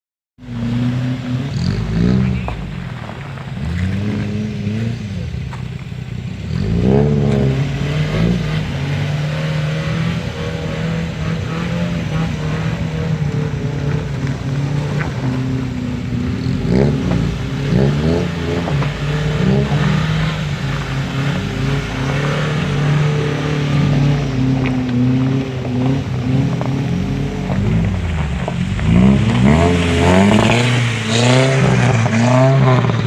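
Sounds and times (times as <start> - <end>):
off-road vehicle engine revving: 0.4 - 33.0.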